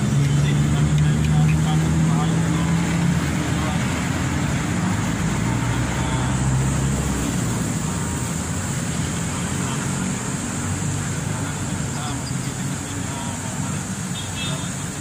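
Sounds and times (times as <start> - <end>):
passing vehicle engine rumble: 0.0 - 15.0
road traffic: 0.0 - 15.0.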